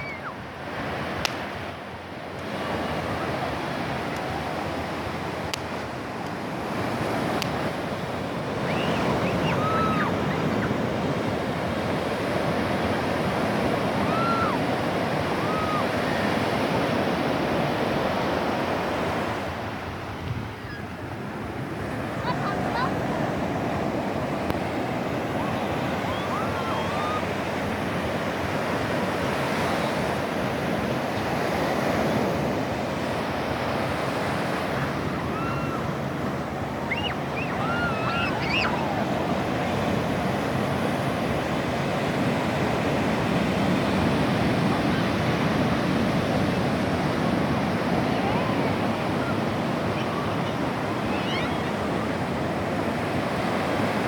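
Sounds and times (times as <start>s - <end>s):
waves washing onto shore: 0.0s - 54.0s.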